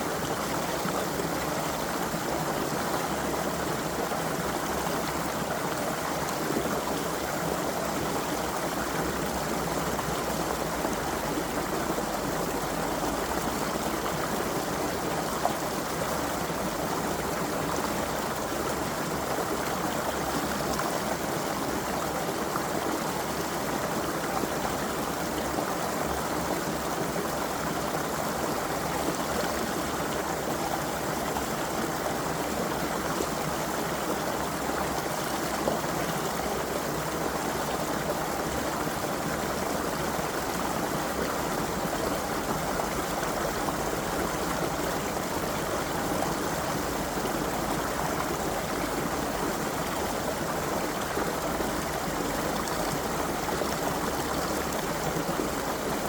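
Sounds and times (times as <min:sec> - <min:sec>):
creek water flowing over stones: 0:00.0 - 0:56.0.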